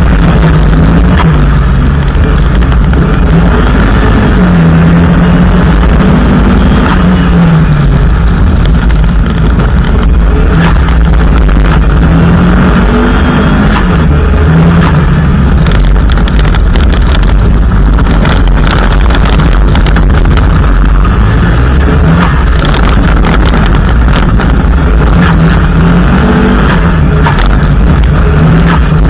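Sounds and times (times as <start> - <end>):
rally car engine running hard: 0.0 - 29.0
tyres roaring on gravel: 0.0 - 29.0.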